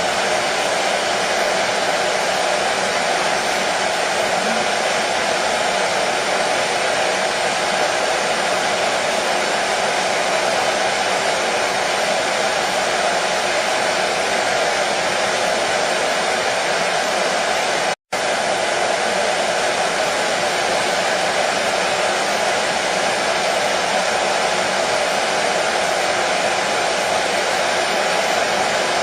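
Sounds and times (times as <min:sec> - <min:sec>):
hair dryer running: 0:00.0 - 0:29.0.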